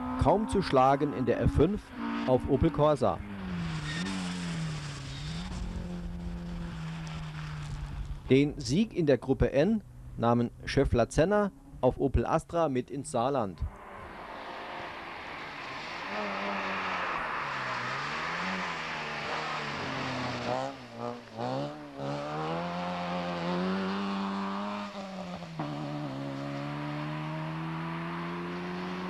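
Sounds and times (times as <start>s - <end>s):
rally car engine revving: 0.0s - 8.3s, 13.6s - 29.0s.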